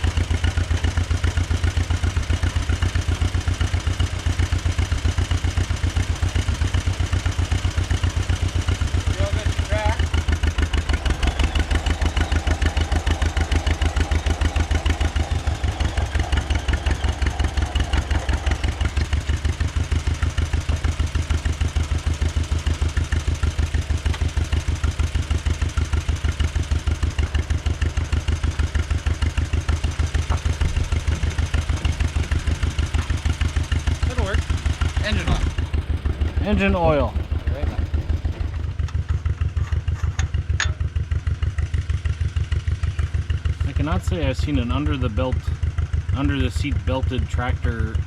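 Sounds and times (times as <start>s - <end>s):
tractor engine idling: 0.0s - 48.0s.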